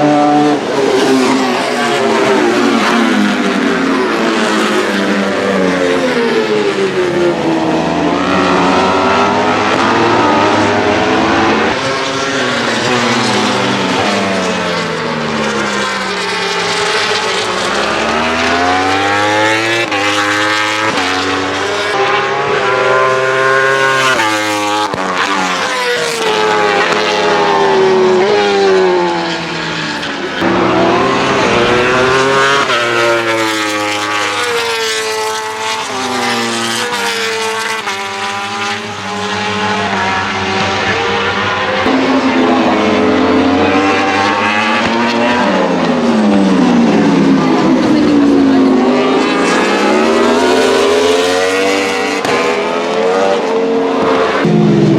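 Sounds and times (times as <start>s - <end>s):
racing motorcycle engines revving: 0.0s - 54.9s.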